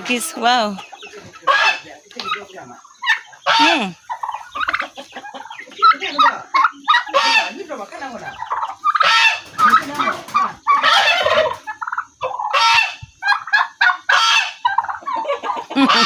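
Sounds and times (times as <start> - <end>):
turkeys gobbling: 0.0 - 16.0.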